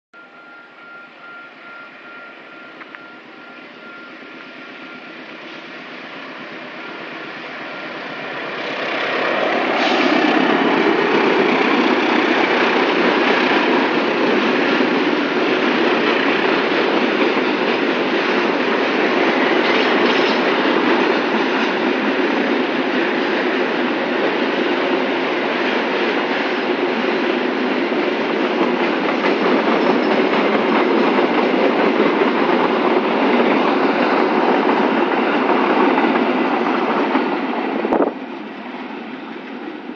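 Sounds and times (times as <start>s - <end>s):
diesel locomotive passing: 0.2s - 39.9s
freight wagons rolling past: 5.6s - 39.9s.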